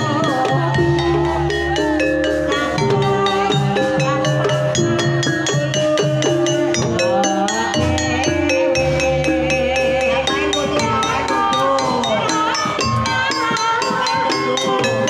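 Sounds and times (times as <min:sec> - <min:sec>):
gamelan struck tuned notes: 0:00.0 - 0:15.0
low drum: 0:00.0 - 0:15.0
woman singing gliding voice: 0:00.0 - 0:15.0.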